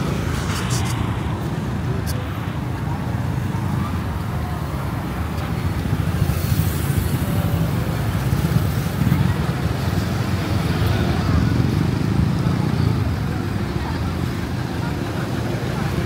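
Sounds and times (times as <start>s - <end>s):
rumble of passing vehicles: 0.0s - 16.0s.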